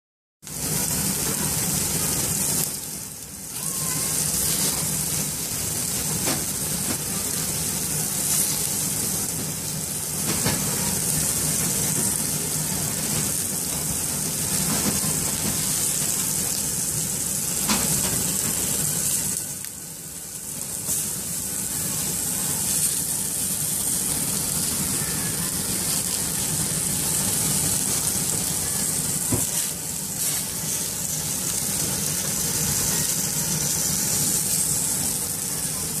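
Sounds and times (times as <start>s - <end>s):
steak sizzling on a grill: 0.4s - 36.0s.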